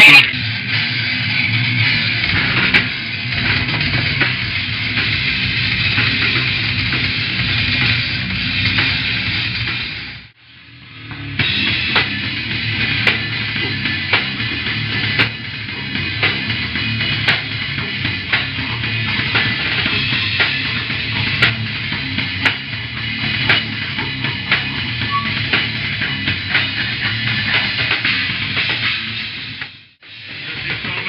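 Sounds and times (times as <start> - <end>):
heavy metal band playing: 0.0 - 31.0.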